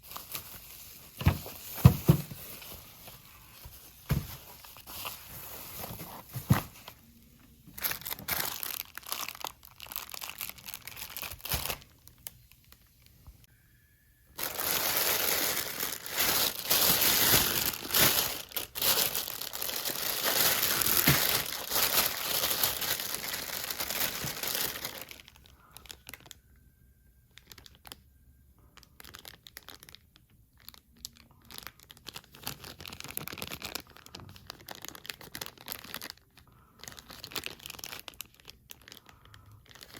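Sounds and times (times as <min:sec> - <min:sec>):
packing material crinkling: 0:00.0 - 0:13.1, 0:14.4 - 0:26.4, 0:27.3 - 0:28.1, 0:28.7 - 0:39.9.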